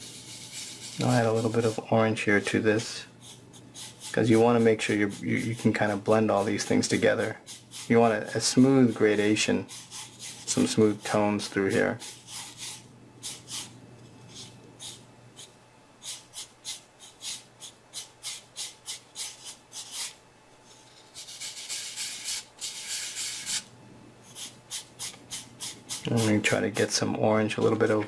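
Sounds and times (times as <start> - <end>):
hand rubbing pastel on paper: 0.0 - 23.6, 24.2 - 26.6.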